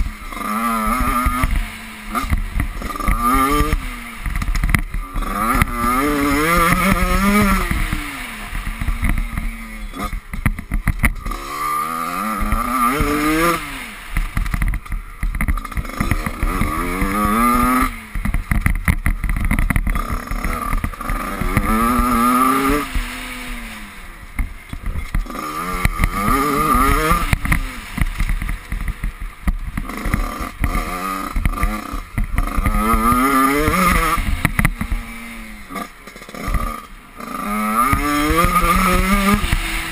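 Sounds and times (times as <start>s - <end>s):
constant low rumble: 0.0s - 39.9s
dirt bike engine revving: 0.0s - 39.9s.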